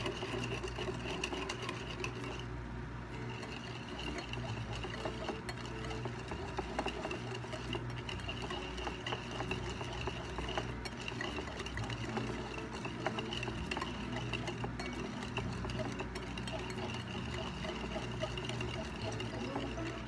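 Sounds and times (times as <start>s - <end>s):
steady low hum: 0.0s - 20.0s
wire whisk scraping ceramic plate: 0.0s - 20.0s.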